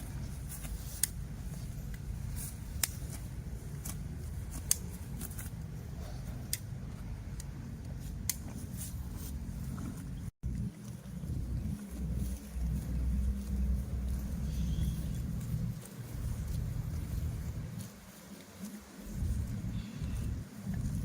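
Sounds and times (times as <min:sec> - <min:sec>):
cattle hooves clicking on road: 0:00.0 - 0:21.0
steady low rumble: 0:00.0 - 0:21.0.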